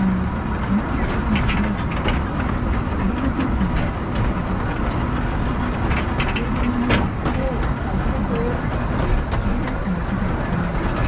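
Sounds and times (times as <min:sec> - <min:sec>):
train rumbling on track: 0:00.0 - 0:11.0
wheels clacking on rails: 0:00.0 - 0:11.0.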